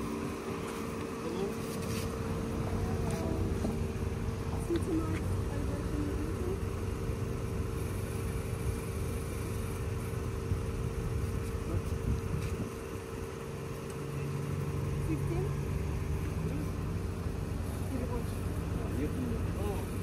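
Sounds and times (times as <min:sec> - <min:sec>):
low traffic rumble: 0:00.0 - 0:20.0
vehicle engine humming: 0:00.0 - 0:20.0.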